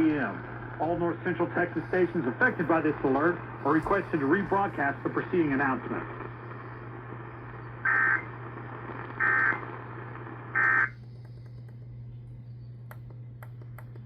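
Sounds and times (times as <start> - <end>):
radio static hiss: 0.0 - 12.8
static clicks: 0.0 - 14.0
steady low hum: 0.0 - 14.0.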